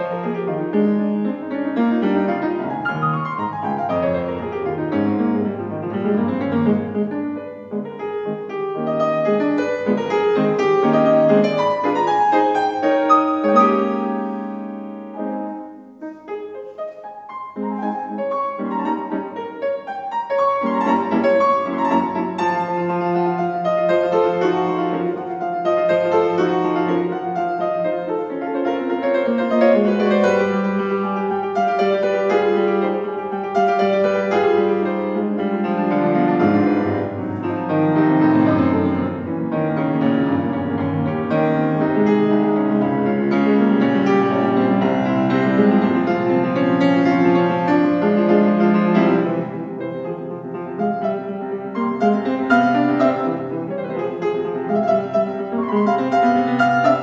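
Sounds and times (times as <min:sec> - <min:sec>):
classical piano piece: 0:00.0 - 0:57.0.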